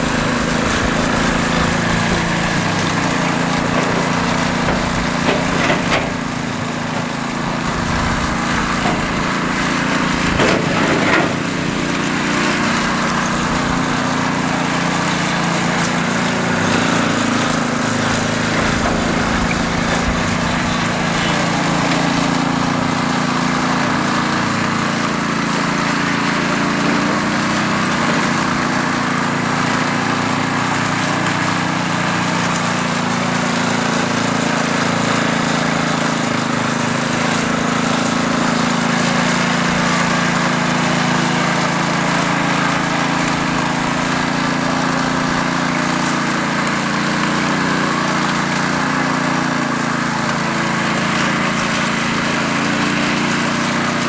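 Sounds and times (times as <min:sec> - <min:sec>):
power trowel engine running: 0:00.0 - 0:54.0.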